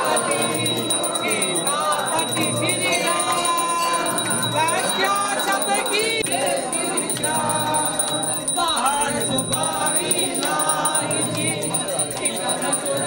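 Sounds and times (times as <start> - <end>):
devotional singing: 0.0 - 13.0
temple bells ringing: 0.0 - 13.0.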